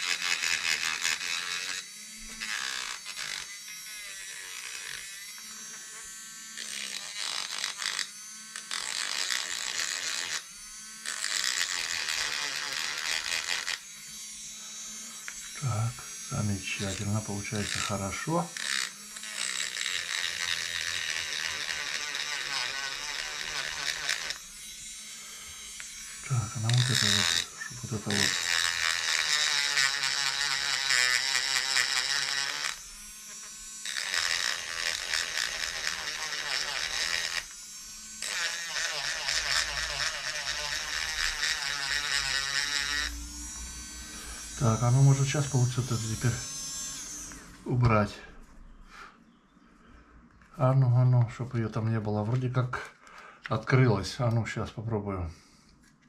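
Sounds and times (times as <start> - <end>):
rotary tool motor whine: 0.0 - 47.7
abrasive bit grinding: 0.0 - 48.8.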